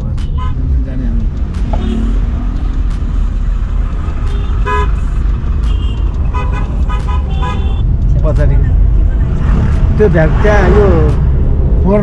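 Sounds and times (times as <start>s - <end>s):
vehicle rumbling on road: 0.0s - 12.0s.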